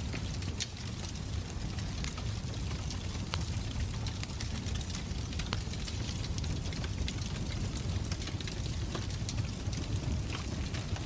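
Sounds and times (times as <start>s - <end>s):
low rumble of flames: 0.0s - 11.0s
wood fire crackling: 0.0s - 11.0s.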